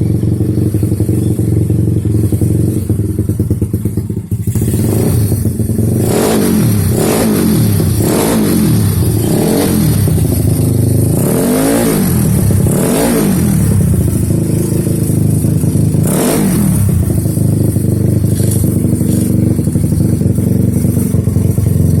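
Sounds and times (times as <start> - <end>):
scooter engine revving: 0.0 - 22.0.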